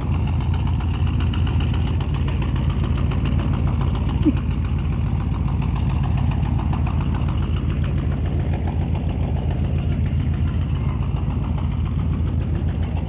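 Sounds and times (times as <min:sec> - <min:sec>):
boat engine throbbing: 0:00.0 - 0:13.0.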